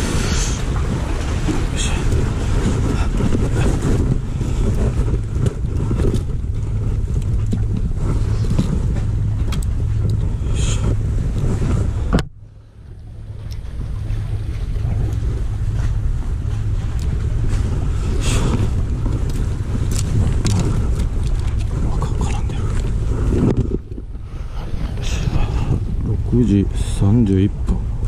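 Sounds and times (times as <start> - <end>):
wind and sea rumble: 0.0 - 28.0.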